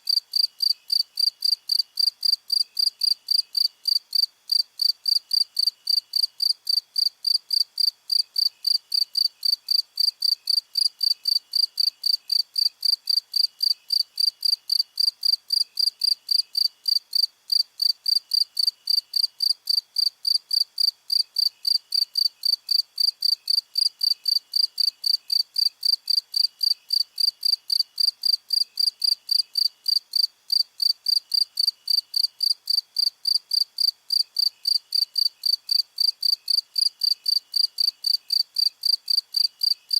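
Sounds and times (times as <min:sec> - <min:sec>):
faint cricket chirping: 0:00.0 - 0:39.9
loud cricket chirping: 0:00.1 - 0:39.9.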